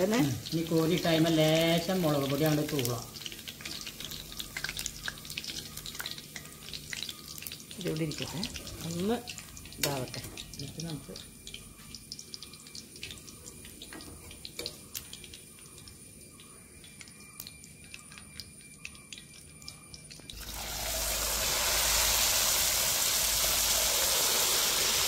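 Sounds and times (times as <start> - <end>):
food sizzling in deep oil: 0.0 - 25.0
hot oil crackling and popping: 0.0 - 25.0.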